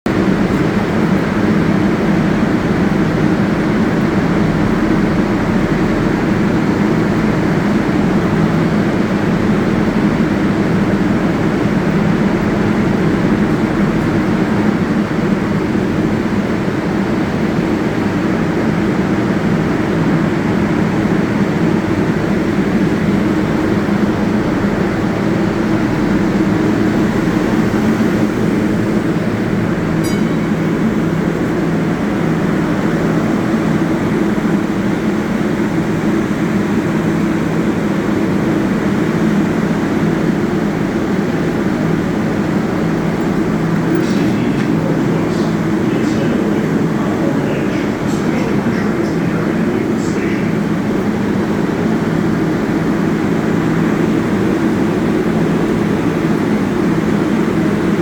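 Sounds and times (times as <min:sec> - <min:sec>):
subway train humming: 0:00.0 - 0:58.0.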